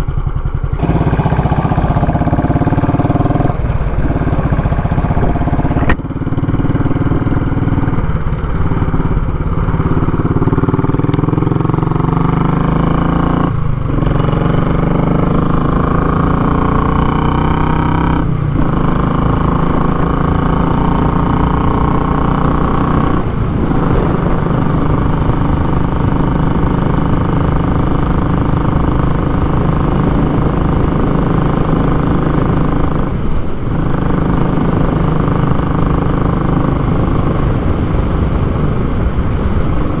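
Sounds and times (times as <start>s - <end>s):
motorcycle exhaust note: 0.0s - 40.0s.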